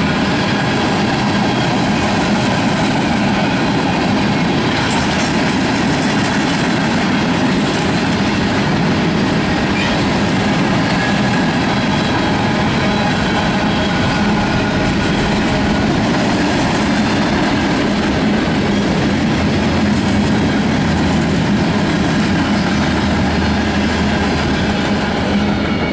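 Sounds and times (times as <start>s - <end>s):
freight train rumbling past: 0.0s - 25.9s.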